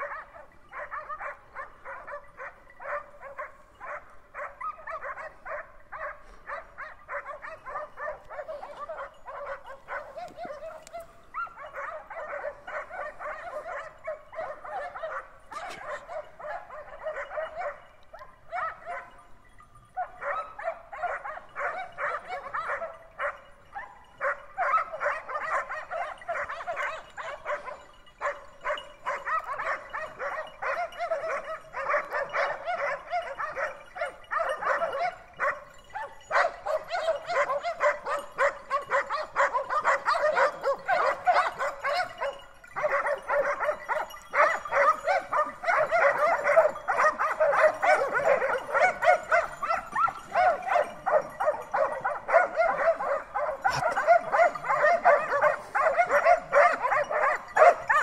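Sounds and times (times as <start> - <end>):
dogs barking and yelping: 0.0 - 58.0.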